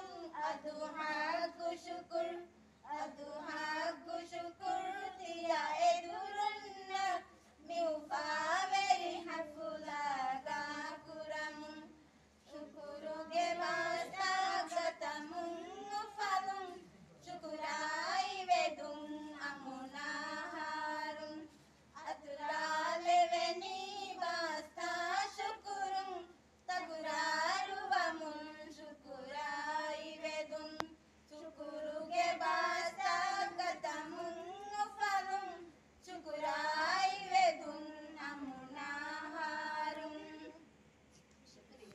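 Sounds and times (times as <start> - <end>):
women singing without instruments: 0.0 - 40.6.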